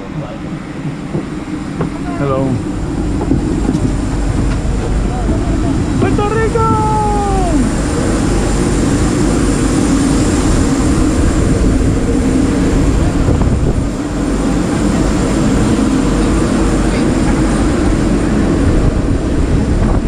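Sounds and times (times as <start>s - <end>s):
aircraft rumble: 0.0s - 20.0s
high whine: 0.0s - 20.0s.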